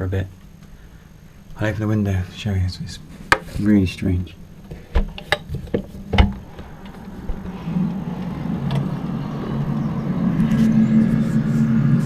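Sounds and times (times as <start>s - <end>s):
low droning hum: 0.0s - 12.0s
held deep tones: 1.1s - 12.0s.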